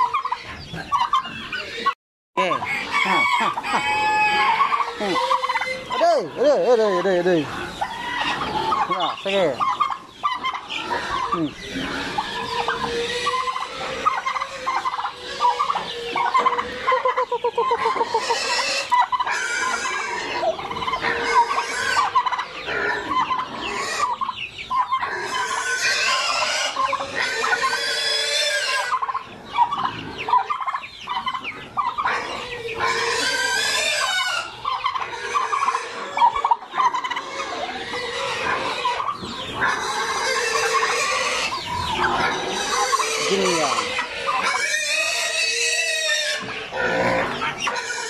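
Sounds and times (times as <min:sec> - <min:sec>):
fowl clucking and calling: 0:00.0 - 0:48.0
turkey gobbling: 0:00.0 - 0:48.0.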